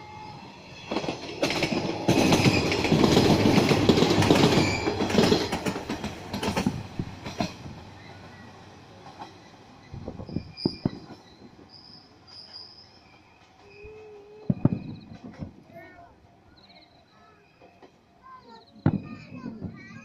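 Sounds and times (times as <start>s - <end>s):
train running on rails: 0.0s - 20.0s.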